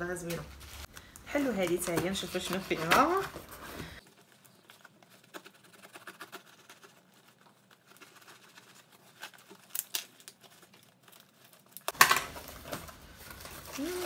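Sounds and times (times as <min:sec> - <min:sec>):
cardboard ripping and rustling: 0:00.4 - 0:14.0.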